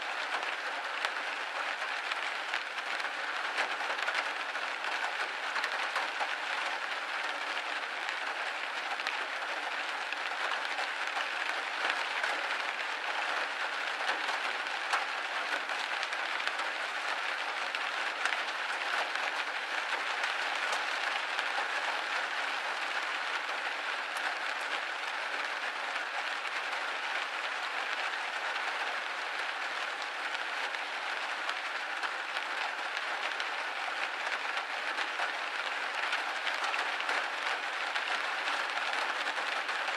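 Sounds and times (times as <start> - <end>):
rain pattering on a window pane: 0.0 - 39.9.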